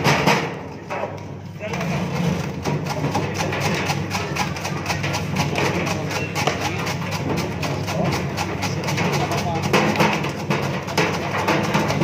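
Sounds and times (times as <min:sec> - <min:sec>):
rapid clicking and clattering: 0:00.0 - 0:12.0.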